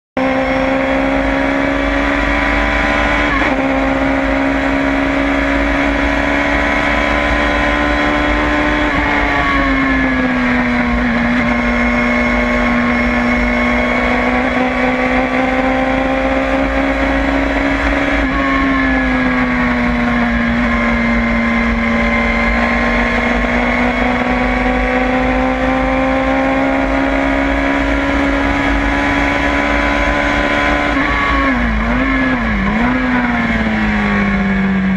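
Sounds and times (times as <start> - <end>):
race car engine at speed: 0.2 - 34.9.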